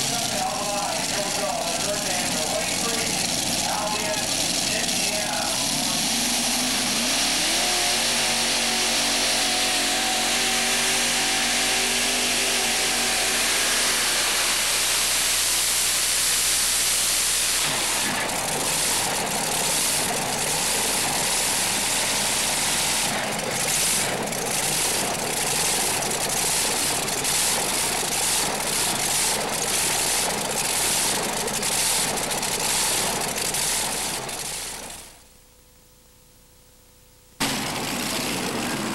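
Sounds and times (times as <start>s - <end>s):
pulling tractor engine roaring: 0.0s - 35.2s, 37.4s - 38.9s.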